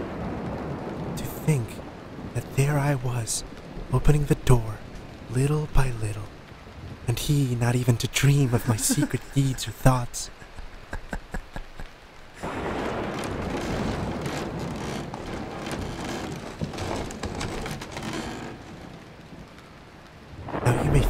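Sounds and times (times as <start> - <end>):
rain-like hiss: 0.0 - 21.0.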